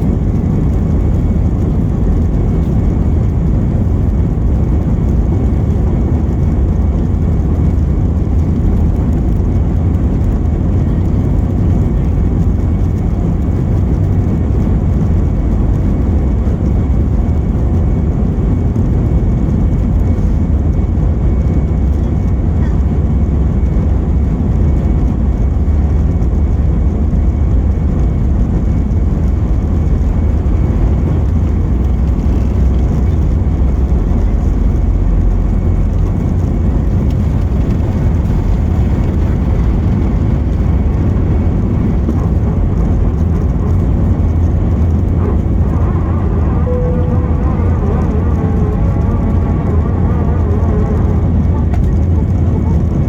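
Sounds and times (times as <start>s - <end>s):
jet engine cabin rumble: 0.0s - 53.0s.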